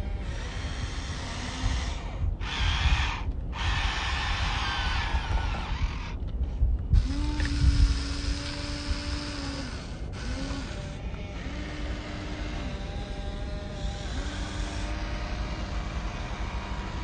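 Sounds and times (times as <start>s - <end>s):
low rumble: 0.0s - 17.0s
small electric motors whirring: 0.0s - 17.0s.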